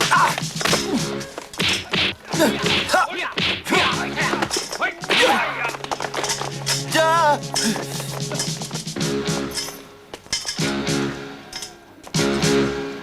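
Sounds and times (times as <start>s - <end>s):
film score steady notes: 0.0s - 13.0s.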